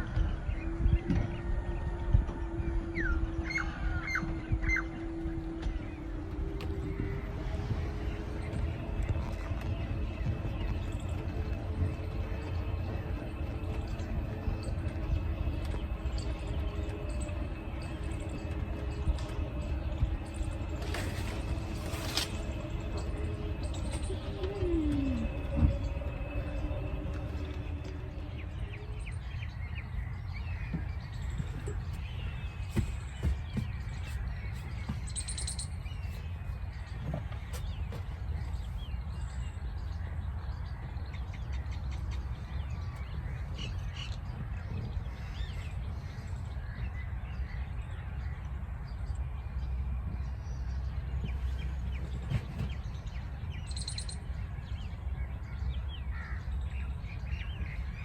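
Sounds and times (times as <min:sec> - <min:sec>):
birds chirping and calling: 0:00.0 - 0:58.0
low outdoor rumble: 0:00.0 - 0:58.0.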